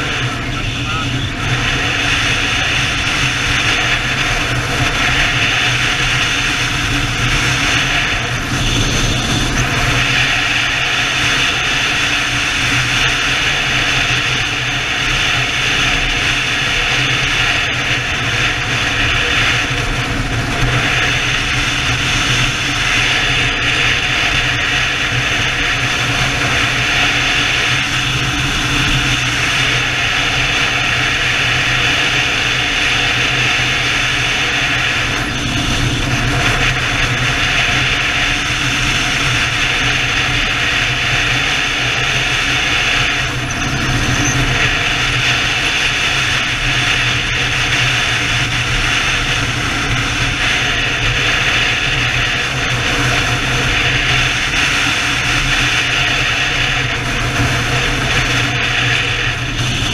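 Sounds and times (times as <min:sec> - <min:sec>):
motorcycle engine hum: 0:00.0 - 0:59.9
wind rushing past camera: 0:00.0 - 0:59.9.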